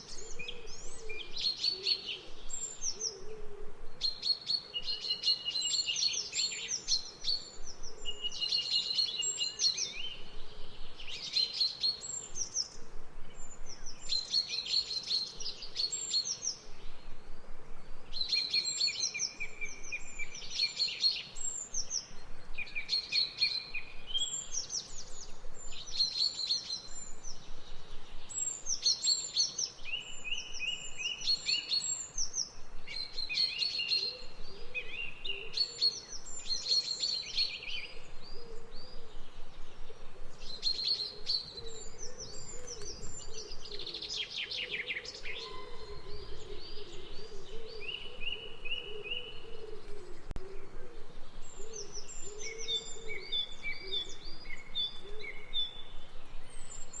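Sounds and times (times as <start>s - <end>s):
songbirds chirping and whistling: 0.0s - 57.0s.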